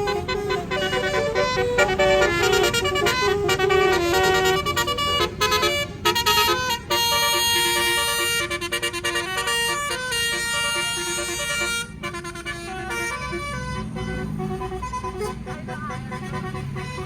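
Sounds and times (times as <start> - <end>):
bus engine running: 0.0 - 17.0
musical bus horn: 0.0 - 17.0.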